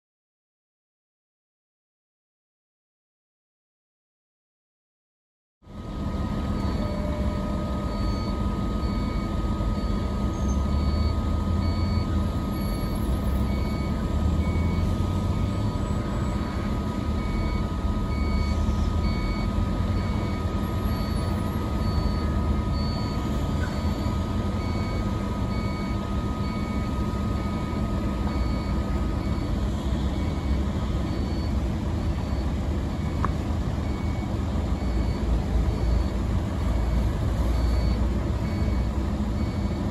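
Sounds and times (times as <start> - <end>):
excavator diesel engine under load: 5.7 - 39.9.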